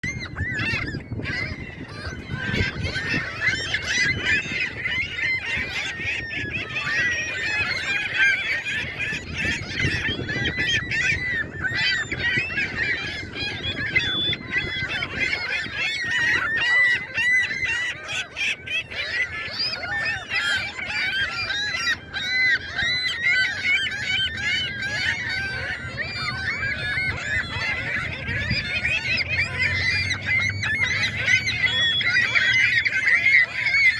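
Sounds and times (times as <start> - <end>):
flock of geese honking: 0.0 - 33.9.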